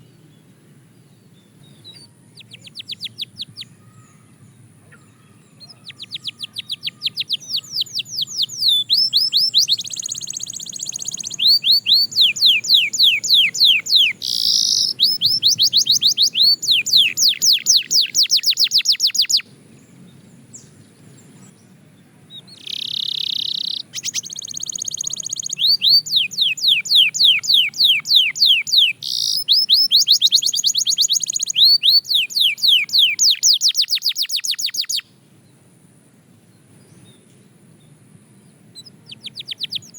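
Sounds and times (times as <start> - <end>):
canary singing fast trills: 0.0 - 35.6, 38.4 - 39.9.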